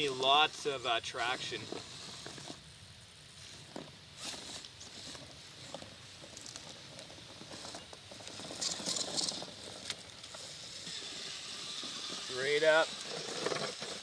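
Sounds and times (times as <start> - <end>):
toy crawler tires clicking on rock: 0.0 - 2.7, 3.5 - 14.0.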